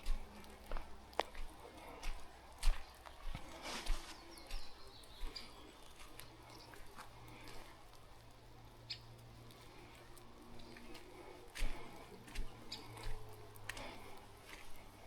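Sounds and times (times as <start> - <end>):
footsteps squelching in mud: 0.0 - 15.0
raindrops dripping: 0.0 - 15.0.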